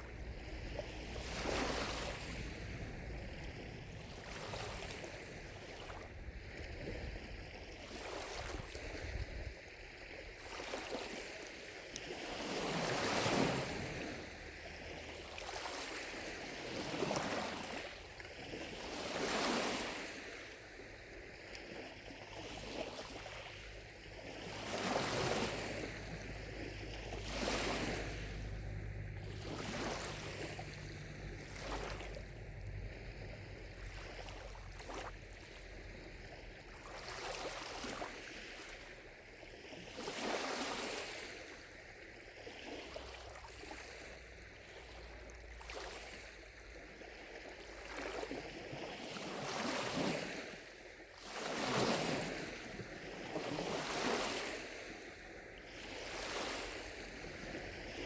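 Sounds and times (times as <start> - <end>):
lake waves lapping on shore: 0.0 - 58.0.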